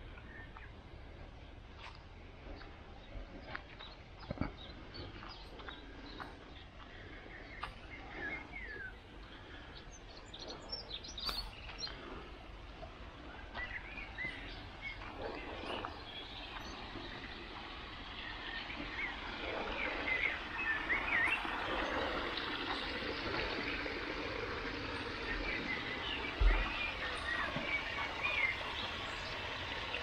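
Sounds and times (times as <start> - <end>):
outdoor background noise: 0.0 - 30.0
small birds chirping: 0.0 - 30.0.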